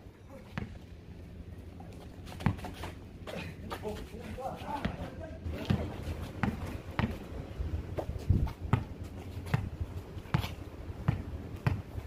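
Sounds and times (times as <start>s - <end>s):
basketball bouncing on asphalt: 0.4s - 1.0s, 1.6s - 12.0s.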